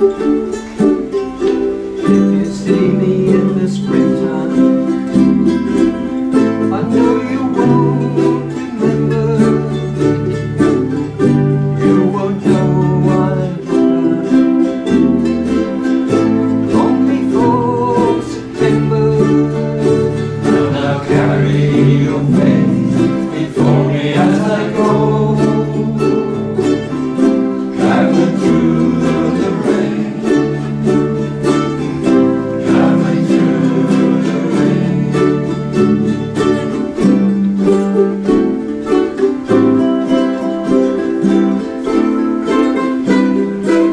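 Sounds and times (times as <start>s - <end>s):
ukuleles strummed: 0.0s - 43.9s.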